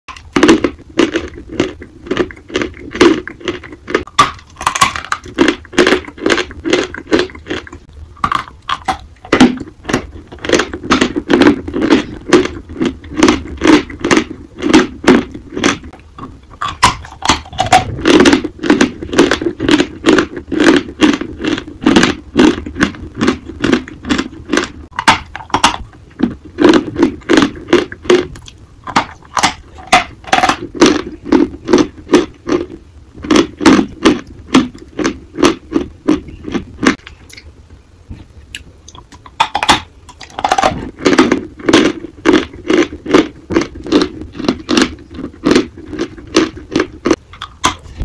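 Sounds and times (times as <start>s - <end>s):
chalk being chewed crunching: 0.1s - 37.5s, 38.5s - 48.0s.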